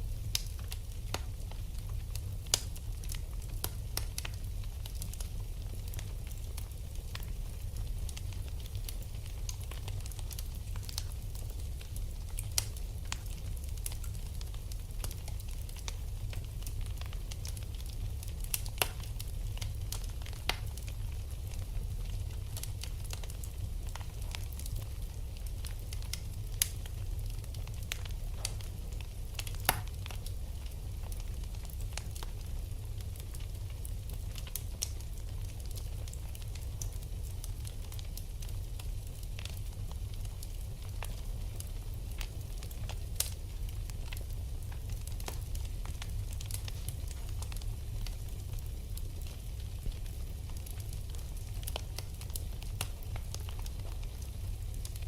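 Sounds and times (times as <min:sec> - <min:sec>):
low rumble of burning fire: 0:00.0 - 0:55.0
wood fire crackling: 0:00.0 - 0:55.0.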